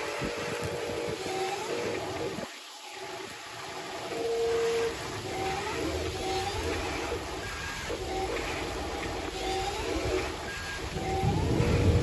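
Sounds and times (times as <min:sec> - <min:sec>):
small electric motors humming: 0:00.0 - 0:12.0.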